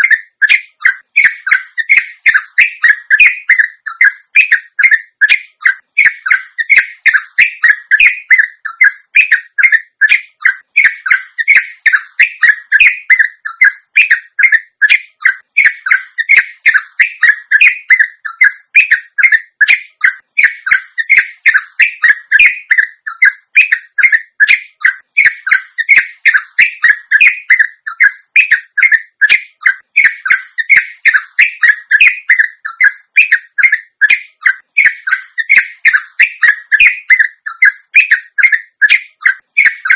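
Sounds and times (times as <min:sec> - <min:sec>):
bulbul chattering: 0:00.0 - 0:39.9.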